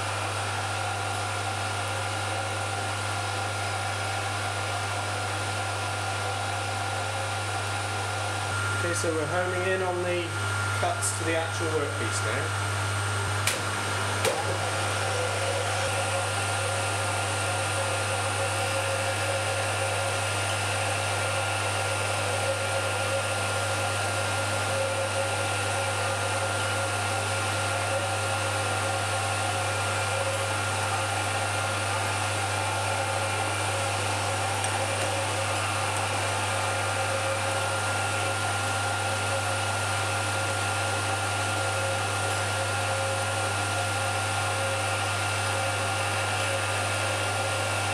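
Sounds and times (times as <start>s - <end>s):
lathe motor hum and whine: 0.0s - 47.9s.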